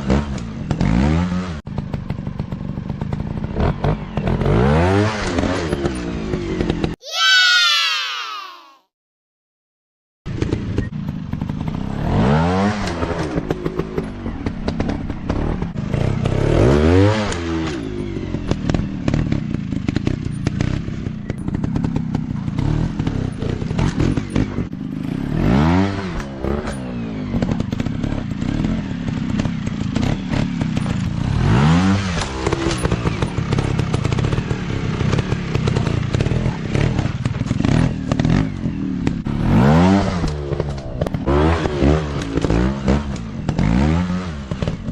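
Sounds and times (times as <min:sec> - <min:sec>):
dirt bike engine revving: 0:03.0 - 0:07.5, 0:10.3 - 0:44.9.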